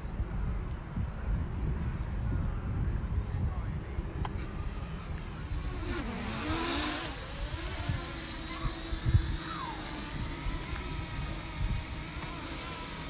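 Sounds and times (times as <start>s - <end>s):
steady engine-like hum: 0.0s - 13.0s
wind buffeting microphone: 0.0s - 13.0s.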